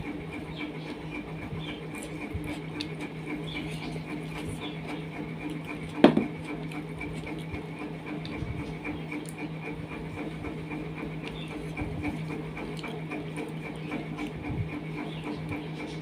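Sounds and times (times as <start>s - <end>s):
steady electrical hum: 0.0s - 16.0s
fingers mixing rice on steel plate: 0.3s - 16.0s.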